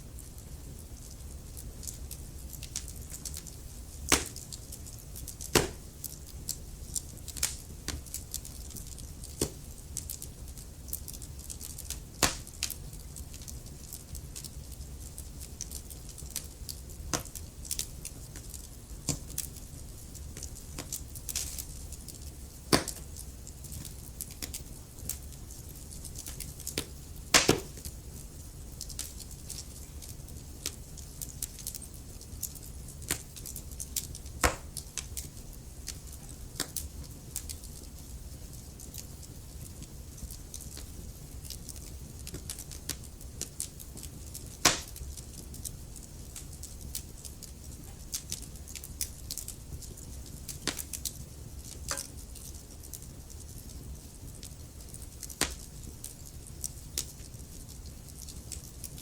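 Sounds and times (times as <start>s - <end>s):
wood fire crackling and popping: 0.0s - 59.0s
fire flames rumbling: 0.1s - 59.0s.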